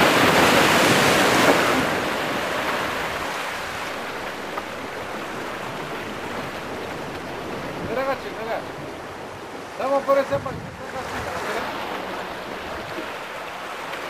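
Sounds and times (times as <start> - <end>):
wind on microphone: 0.0 - 13.4
sea waves: 0.0 - 14.0.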